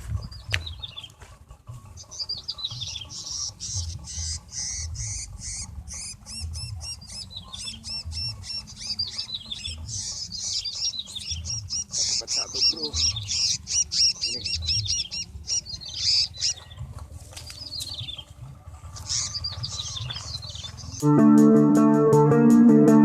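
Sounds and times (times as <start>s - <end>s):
small birds chirping: 0.0s - 21.8s.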